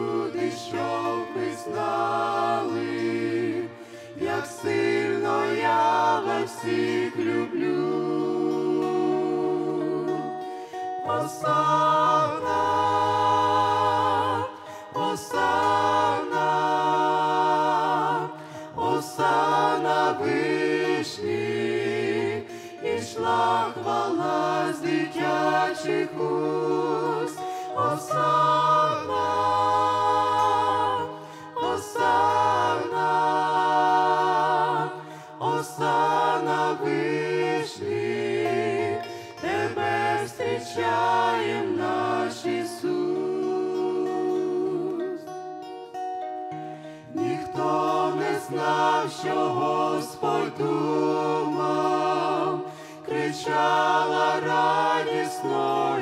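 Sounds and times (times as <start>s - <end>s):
group singing a hymn: 0.0s - 45.4s, 46.5s - 56.0s
acoustic guitar: 0.0s - 56.0s.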